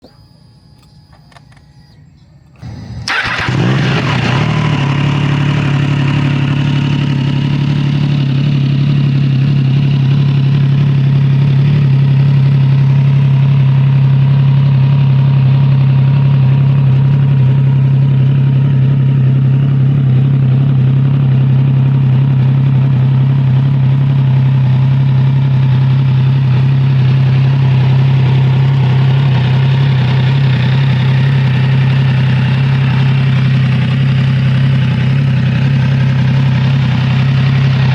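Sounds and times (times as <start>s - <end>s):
motorcycle engine idling: 2.5s - 37.9s.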